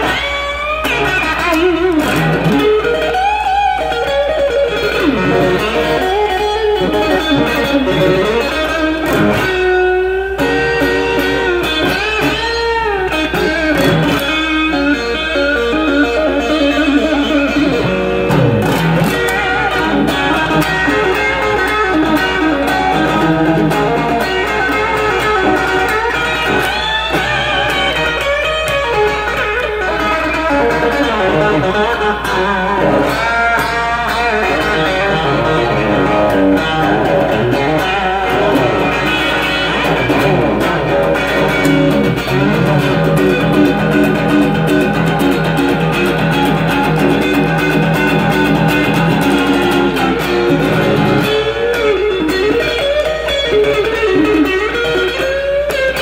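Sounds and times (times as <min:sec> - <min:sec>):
electric guitar with bending notes: 0:00.0 - 0:56.0.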